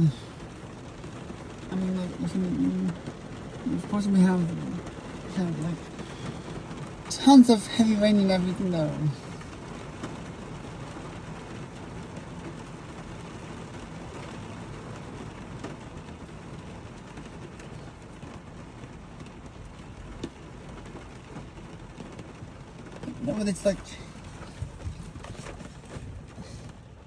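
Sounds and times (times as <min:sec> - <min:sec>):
heavy rain pouring: 0:00.0 - 0:27.0
rain drop ticks: 0:00.0 - 0:27.0.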